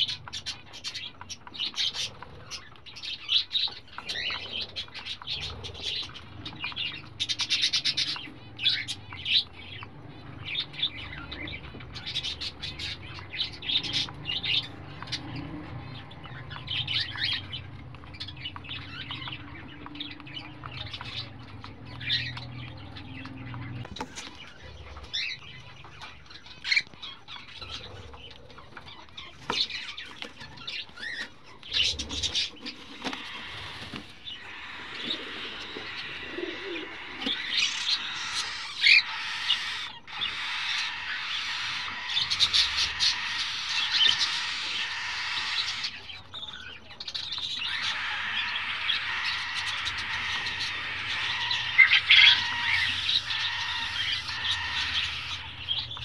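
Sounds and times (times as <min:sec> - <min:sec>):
chicks raspy begging calls: 0:00.0 - 0:56.0.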